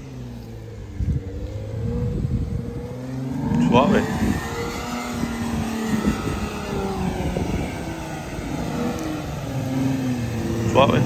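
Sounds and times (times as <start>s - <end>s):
off-road car engine revving: 0.0s - 11.0s.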